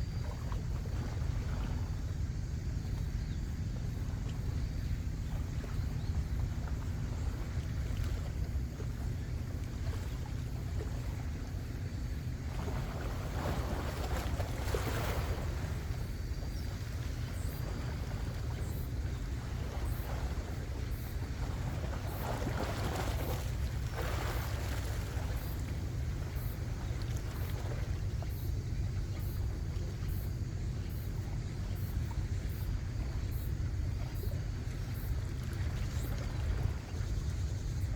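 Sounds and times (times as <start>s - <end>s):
low sea rumble: 0.0s - 37.9s
washing water swells: 3.8s - 37.9s.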